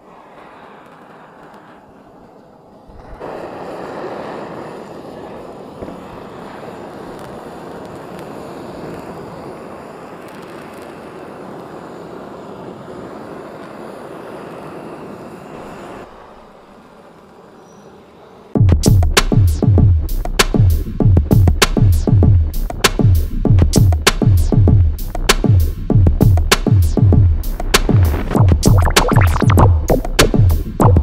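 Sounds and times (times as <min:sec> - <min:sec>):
gas torch flame roaring: 0:00.0 - 0:31.0.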